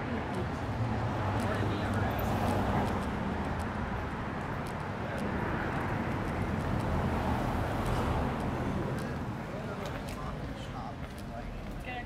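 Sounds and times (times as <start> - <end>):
rumble of vehicle traffic: 0.0 - 12.0.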